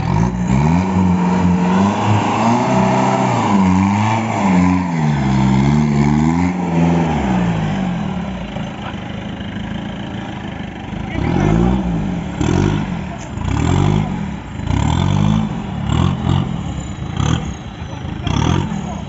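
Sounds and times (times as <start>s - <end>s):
engine revving: 0.0s - 9.0s, 10.9s - 19.0s.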